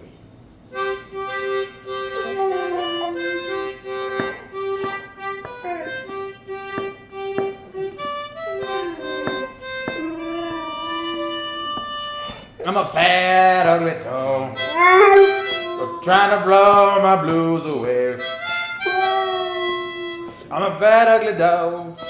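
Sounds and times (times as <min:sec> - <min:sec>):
harmonica playing blues: 0:00.7 - 0:21.3
sharp taps keeping time: 0:00.8 - 0:12.6, 0:14.6 - 0:20.5.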